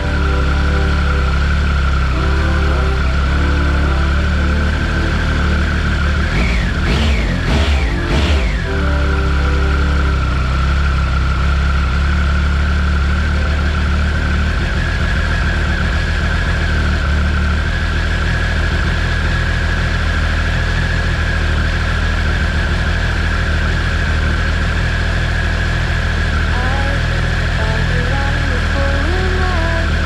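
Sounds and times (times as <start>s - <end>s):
high whine: 0.0s - 30.0s
motorcycle engine idling: 0.0s - 30.0s.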